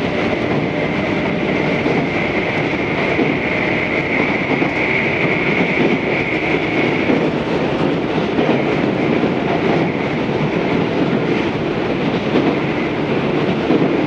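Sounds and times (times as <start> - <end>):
train wheels rolling on rail: 0.0 - 14.0.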